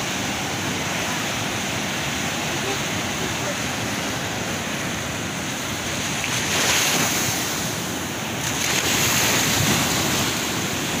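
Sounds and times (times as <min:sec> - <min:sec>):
sea waves washing on sand: 0:00.0 - 0:11.0.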